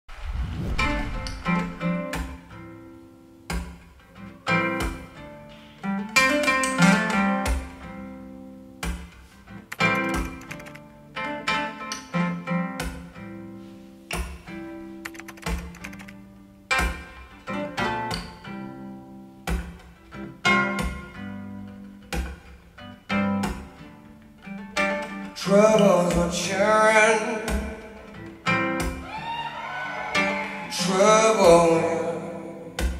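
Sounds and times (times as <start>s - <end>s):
acoustic guitar strumming: 1.4s - 32.9s.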